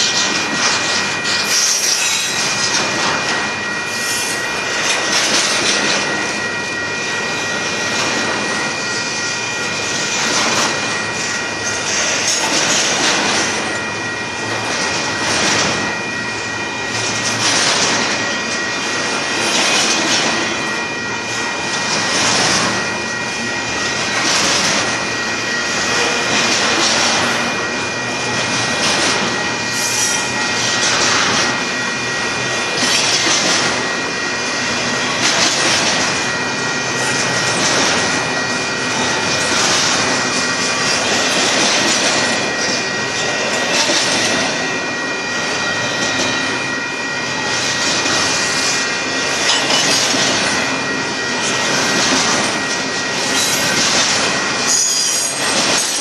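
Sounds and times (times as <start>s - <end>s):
steady high tone: 0.0s - 56.0s
train wheels rushing on rails: 0.0s - 56.0s.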